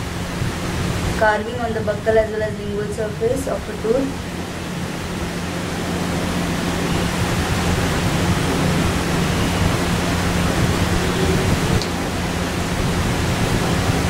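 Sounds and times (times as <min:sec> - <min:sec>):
low hum: 0:00.0 - 0:14.0
steady hiss: 0:00.0 - 0:14.0.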